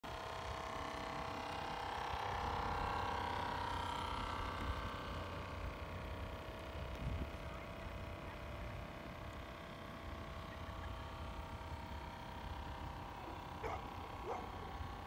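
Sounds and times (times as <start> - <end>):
model boat motor whining: 0.1 - 15.0.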